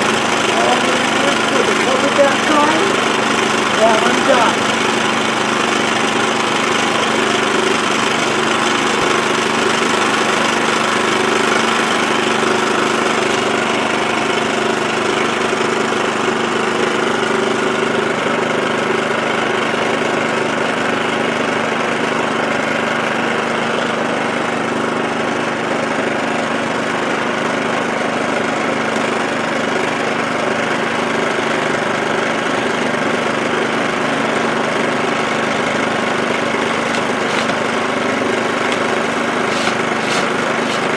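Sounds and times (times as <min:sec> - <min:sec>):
generator running: 0:00.0 - 0:40.9.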